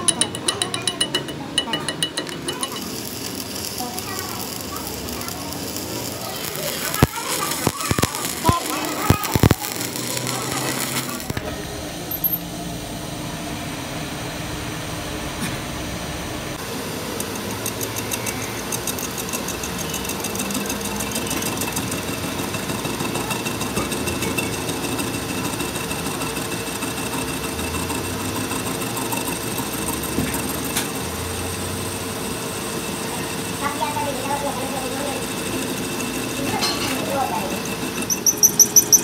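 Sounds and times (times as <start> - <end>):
metal lathe humming and whining: 2.0 - 12.4, 16.2 - 39.0.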